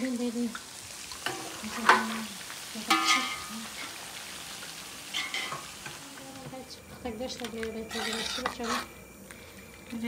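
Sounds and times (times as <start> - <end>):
hot oil sizzling in a frying pan: 0.0 - 10.0.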